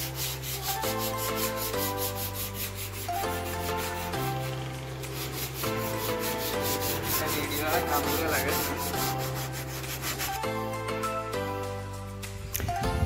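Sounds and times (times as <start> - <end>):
hand sanding: 0.0 - 10.8
background music: 0.0 - 13.0.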